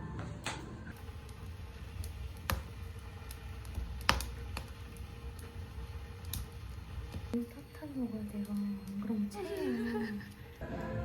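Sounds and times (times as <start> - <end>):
wood fire crackling: 0.4 - 11.0.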